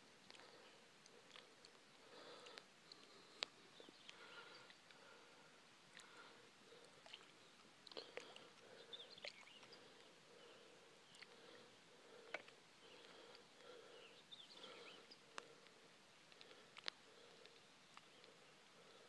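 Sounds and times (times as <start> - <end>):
distant bird chirps: 1.6 - 19.0.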